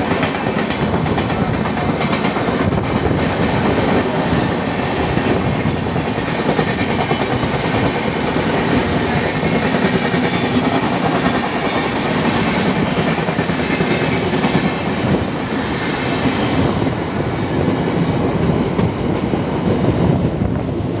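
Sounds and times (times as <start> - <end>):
train wheels on rail: 0.0 - 21.0.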